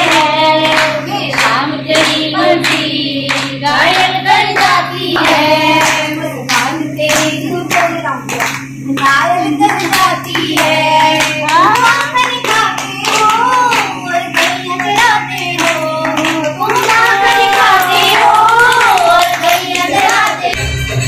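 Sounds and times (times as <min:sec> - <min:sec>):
women singing together: 0:00.0 - 0:20.6
rhythmic hand clapping: 0:00.0 - 0:21.0.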